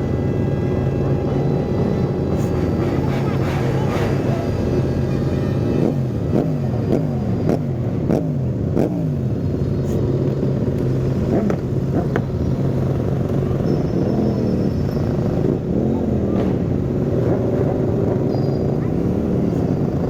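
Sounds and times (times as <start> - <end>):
motorcycle engines humming: 0.0 - 20.0
motorcycle engines revving: 0.0 - 20.0.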